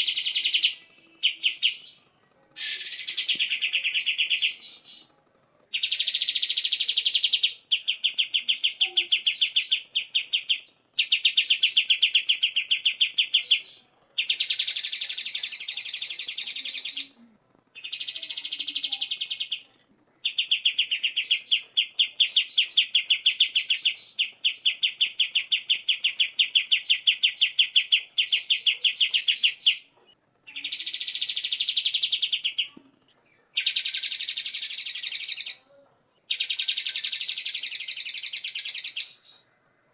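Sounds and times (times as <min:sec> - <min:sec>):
songbird trilling: 0:00.0 - 0:02.0, 0:02.6 - 0:05.1, 0:05.7 - 0:17.2, 0:17.8 - 0:29.9, 0:30.5 - 0:35.7, 0:36.3 - 0:39.5.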